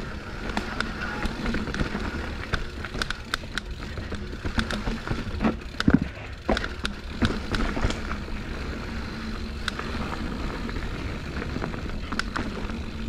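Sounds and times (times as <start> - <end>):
bike tyres rolling over rock: 0.0 - 13.0
bike clacking and knocking: 0.1 - 13.0.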